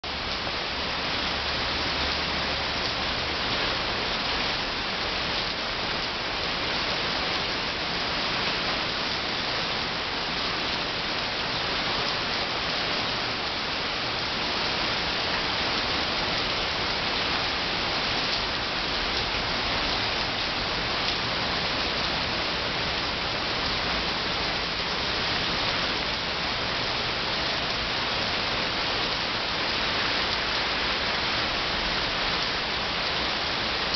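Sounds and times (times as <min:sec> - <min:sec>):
rain on paving and foliage: 0:00.0 - 0:33.9.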